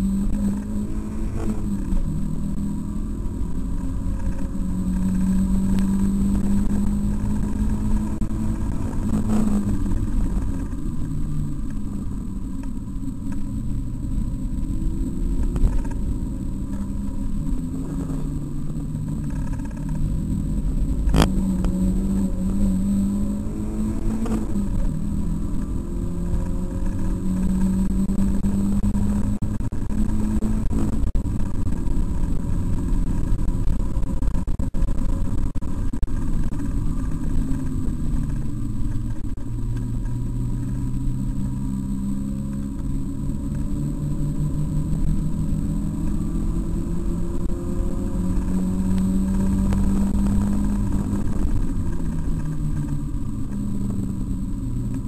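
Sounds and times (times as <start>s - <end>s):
car engine revving from cabin: 0.0s - 12.5s, 14.2s - 34.4s, 39.7s - 55.0s
road and tyre noise: 0.0s - 55.0s.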